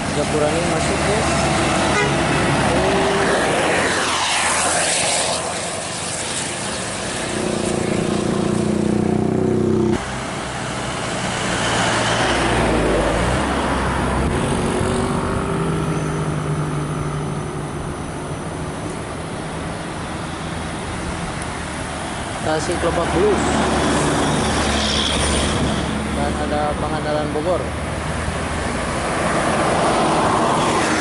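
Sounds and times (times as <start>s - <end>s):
buses passing on highway: 0.0s - 31.0s.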